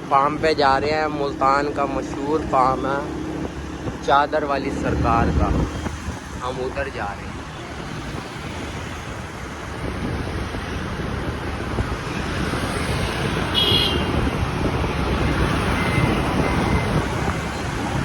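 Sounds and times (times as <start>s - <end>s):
road traffic noise: 0.0s - 18.0s
wind on microphone: 0.0s - 18.0s.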